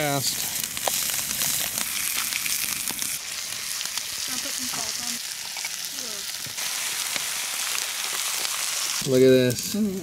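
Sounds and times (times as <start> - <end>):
fish sizzling in a pan: 0.0 - 10.0.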